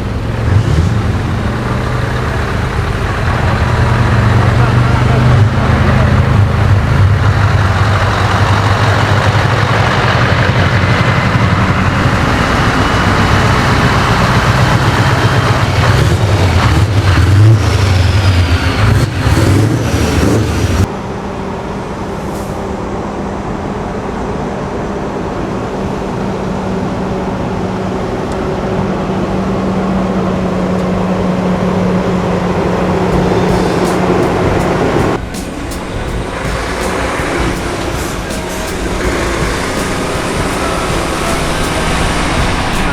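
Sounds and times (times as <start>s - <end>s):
low engine drone: 0.0s - 42.9s
truck engines running rough: 0.0s - 42.9s.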